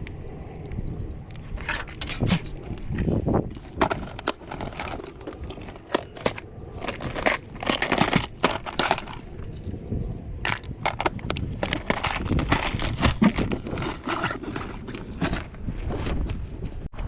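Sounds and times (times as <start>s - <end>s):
crunching footsteps: 1.2s - 17.0s.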